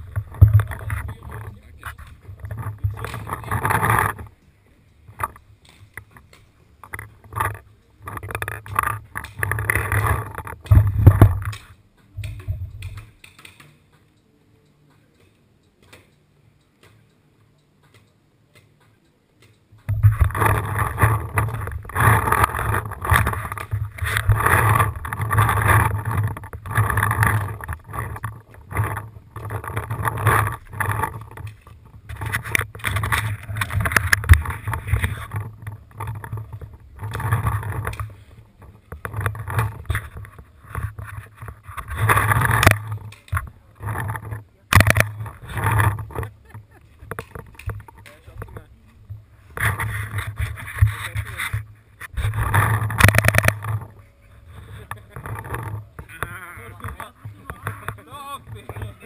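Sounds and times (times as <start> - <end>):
camera handling rumble and rustle: 0.0 - 4.4, 5.0 - 13.6, 19.8 - 59.0.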